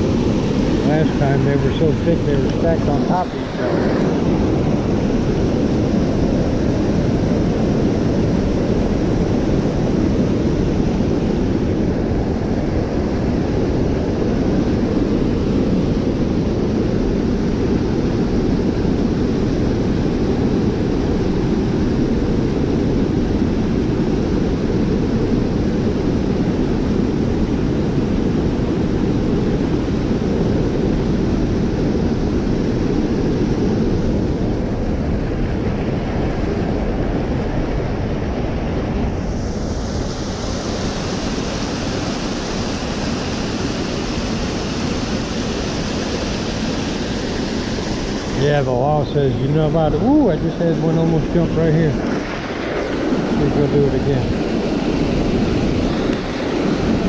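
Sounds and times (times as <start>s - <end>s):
water rushing over dam and rapids: 0.0s - 57.0s.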